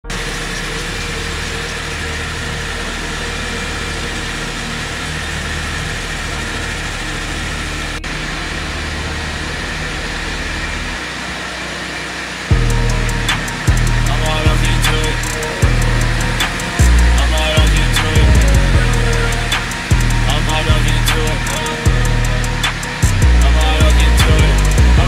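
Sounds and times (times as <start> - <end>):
floor grinder grinding concrete: 0.0 - 25.0.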